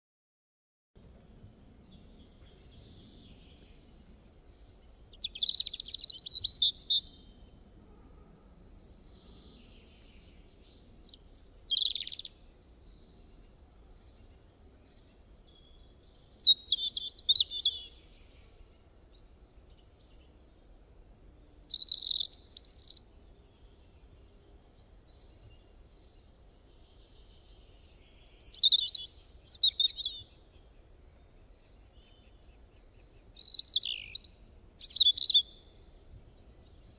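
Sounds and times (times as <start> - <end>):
songbird chirping: 1.0 - 7.8, 8.4 - 36.9.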